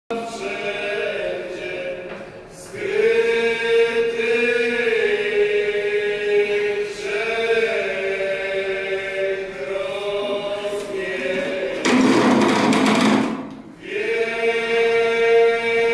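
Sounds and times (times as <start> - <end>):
chant-like singing with held notes: 0.1 - 15.9.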